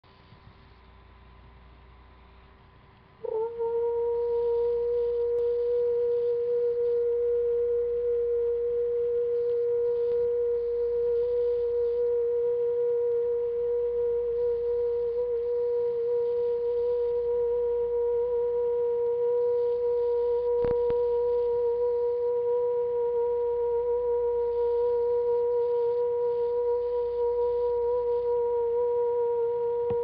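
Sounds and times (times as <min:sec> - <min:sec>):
person singing a long note: 0:03.2 - 0:30.0.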